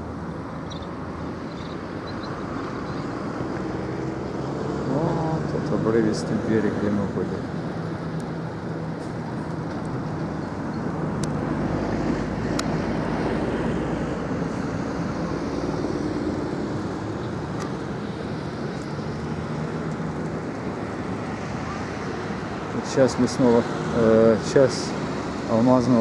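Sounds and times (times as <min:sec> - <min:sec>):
distant road traffic hum: 0:00.0 - 0:26.0.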